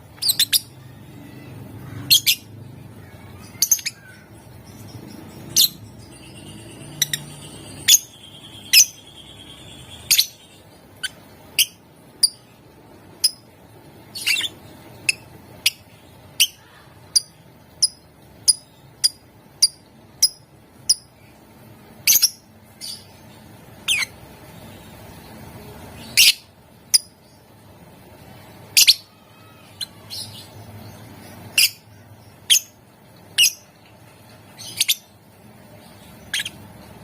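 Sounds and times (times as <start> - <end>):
lovebird chirping: 0.0 - 27.5, 28.6 - 33.8, 34.5 - 37.0.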